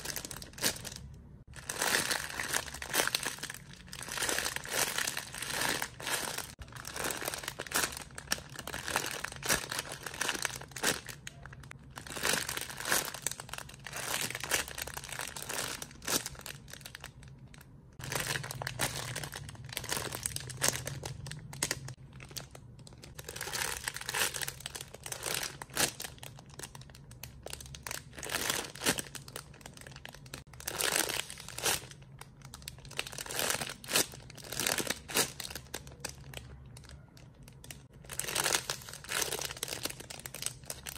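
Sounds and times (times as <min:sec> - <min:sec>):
plastic packaging crinkling: 0:00.0 - 0:40.9.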